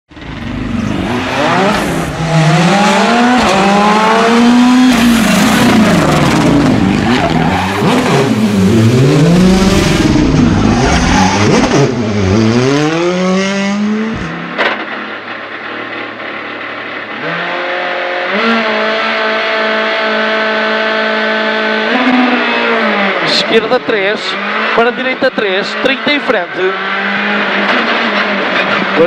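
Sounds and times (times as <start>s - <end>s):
rally car engine revving hard: 0.2s - 14.9s, 16.9s - 29.0s.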